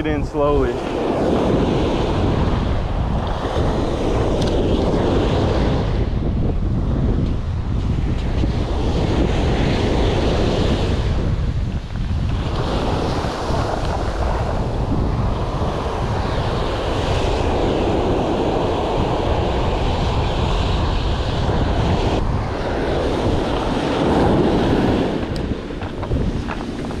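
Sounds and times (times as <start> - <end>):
waves breaking on beach: 0.0 - 6.8, 7.4 - 27.0
wind on microphone: 0.0 - 27.0.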